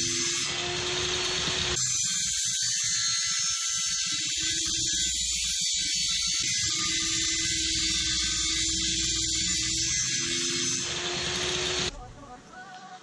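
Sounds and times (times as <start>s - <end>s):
table saw cutting plywood: 0.0s - 11.9s.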